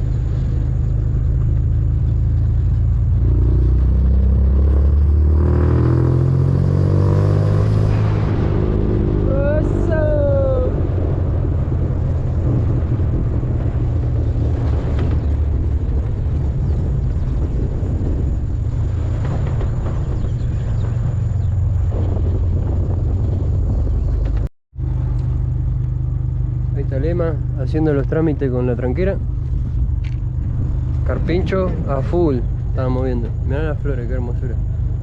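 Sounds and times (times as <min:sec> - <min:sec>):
vehicle engine and road noise: 0:00.0 - 0:35.0.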